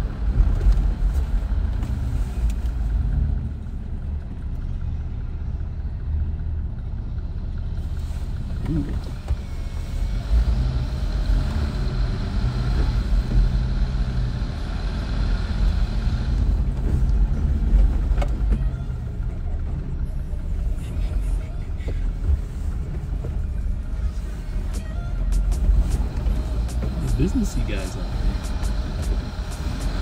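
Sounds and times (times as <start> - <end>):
engine running low hum: 0.0 - 30.0.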